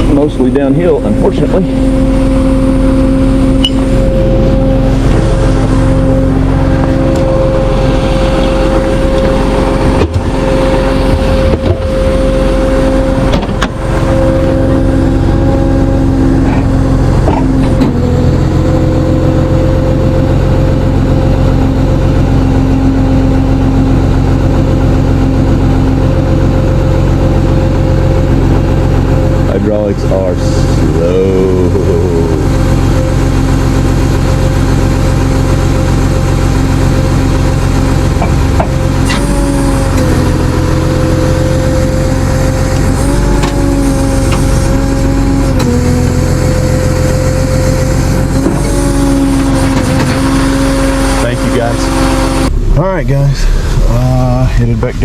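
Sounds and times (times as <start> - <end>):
steady whine: 0.0 - 55.0
truck engine running under load: 0.0 - 55.0.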